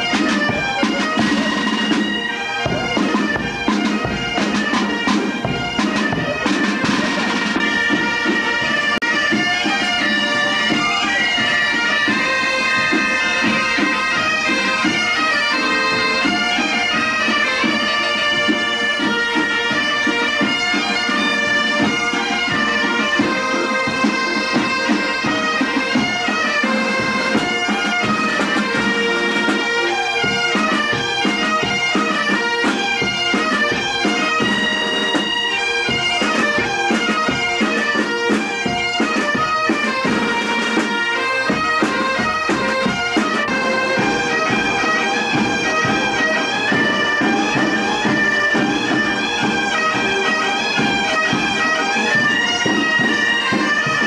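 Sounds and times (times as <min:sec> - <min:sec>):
bagpipes playing over drone: 0:00.0 - 0:54.0
drums keeping beat: 0:00.0 - 0:54.0.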